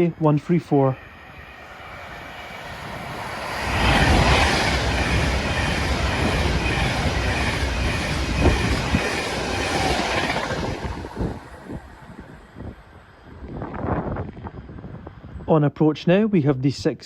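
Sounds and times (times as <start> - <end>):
electric train passing at speed: 0.0 - 15.4.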